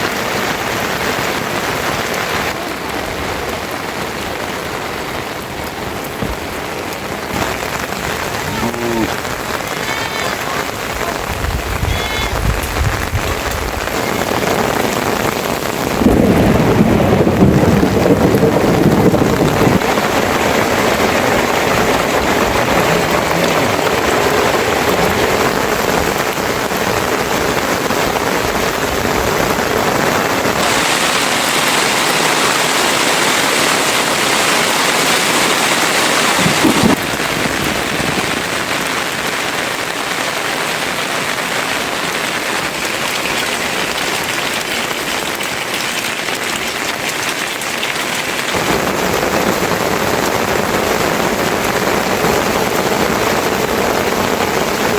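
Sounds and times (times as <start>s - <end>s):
rain falling on surfaces: 0.0s - 54.9s.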